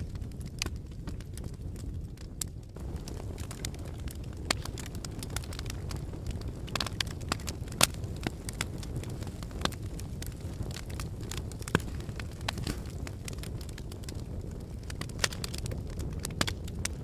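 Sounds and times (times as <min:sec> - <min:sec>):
fire crackles and pops: 0:00.0 - 0:17.0
fire low rumble: 0:00.0 - 0:17.0.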